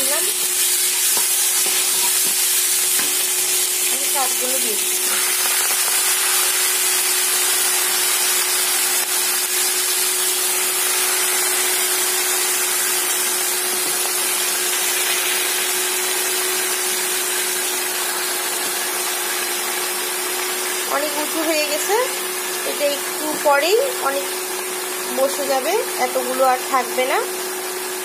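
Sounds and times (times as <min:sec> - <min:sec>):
leaves sizzling in hot oil: 0:00.0 - 0:28.0.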